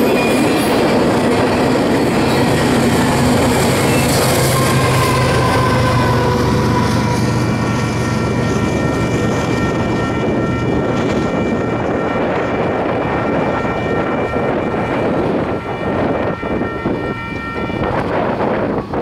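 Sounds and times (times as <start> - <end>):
crossing bell ringing: 0.0 - 19.0
freight train rumble: 0.0 - 19.0
wind noise on microphone: 0.0 - 19.0.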